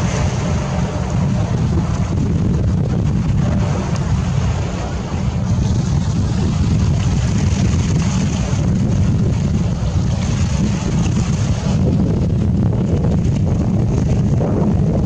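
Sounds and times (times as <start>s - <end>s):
fishing boat engine running: 0.0s - 15.0s
sea wash: 0.0s - 15.0s
wind buffeting microphone: 0.0s - 15.0s.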